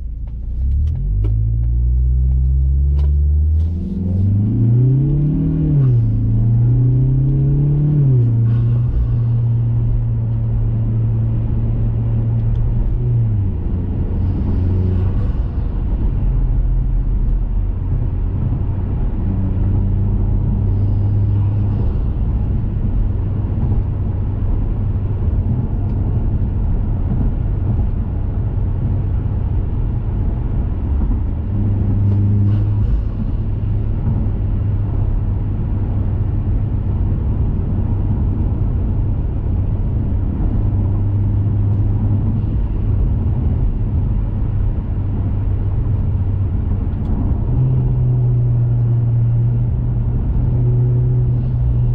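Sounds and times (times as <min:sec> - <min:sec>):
car engine cruising with low drone: 0:00.0 - 0:51.9
road rumble: 0:00.0 - 0:51.9.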